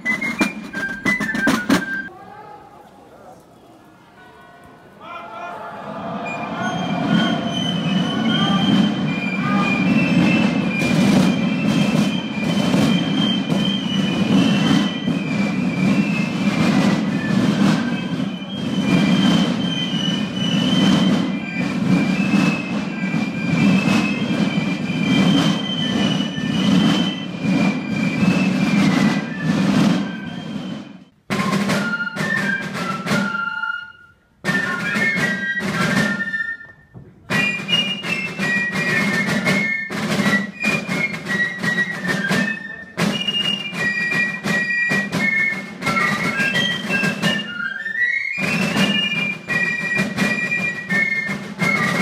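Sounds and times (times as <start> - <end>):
piccolos playing a march: 0.0 - 2.1, 5.1 - 52.0
side drums beating: 0.0 - 2.1, 6.2 - 33.6, 37.0 - 47.7, 48.4 - 52.0.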